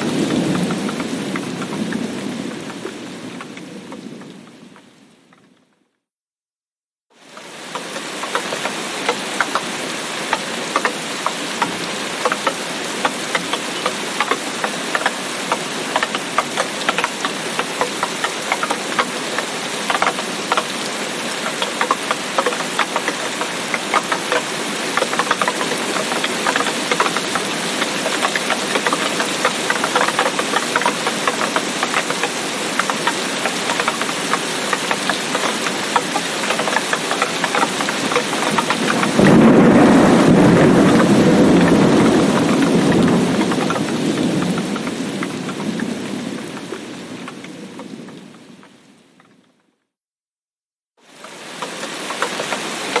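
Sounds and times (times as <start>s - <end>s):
steady rain with drop taps: 0.0s - 6.0s, 7.1s - 49.6s, 51.0s - 53.0s.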